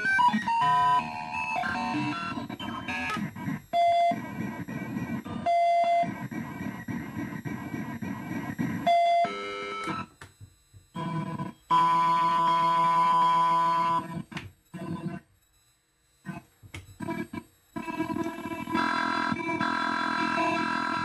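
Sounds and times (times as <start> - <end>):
buzzy crackling noise: 0.0 - 8.9, 10.9 - 21.0.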